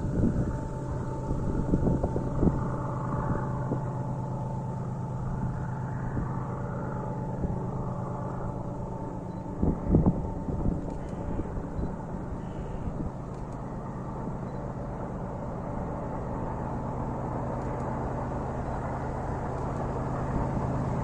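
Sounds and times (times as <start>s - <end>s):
steady train hum: 0.0s - 21.0s.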